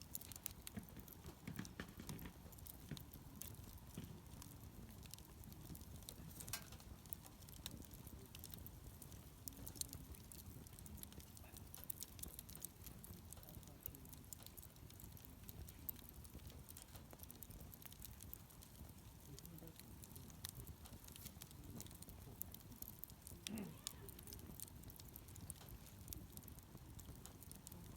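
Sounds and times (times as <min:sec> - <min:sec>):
campfire crackling and popping: 0:00.0 - 0:27.9.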